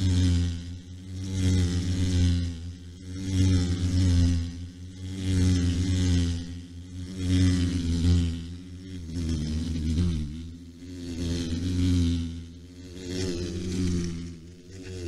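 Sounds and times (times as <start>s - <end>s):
low mechanical buzzing hum: 0.0s - 15.0s.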